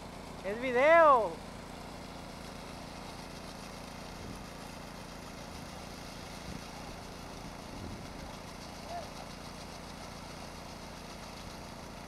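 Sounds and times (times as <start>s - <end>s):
power trowel engine running: 0.0s - 12.0s.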